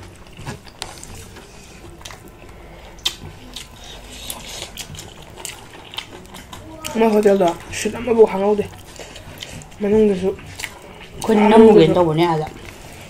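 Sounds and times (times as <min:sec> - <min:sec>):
chewing and mouth smacks: 0:00.0 - 0:11.4.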